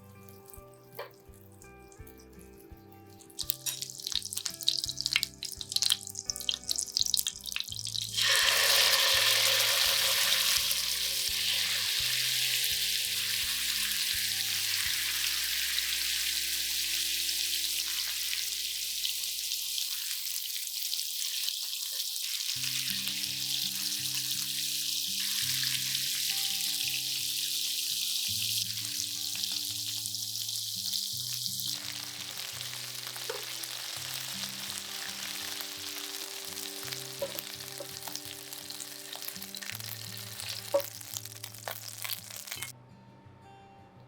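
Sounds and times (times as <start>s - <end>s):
food sizzling in a pan: 0.0s - 42.7s
oil crackling and spitting: 0.5s - 42.7s.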